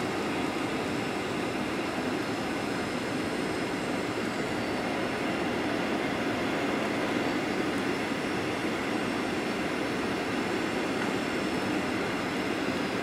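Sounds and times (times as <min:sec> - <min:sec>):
faint high whine: 0:00.0 - 0:13.0
jet engines rumbling: 0:00.0 - 0:13.0.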